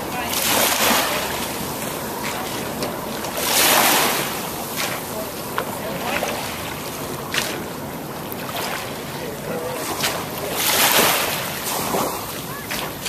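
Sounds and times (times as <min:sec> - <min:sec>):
water lapping: 0:00.0 - 0:13.0.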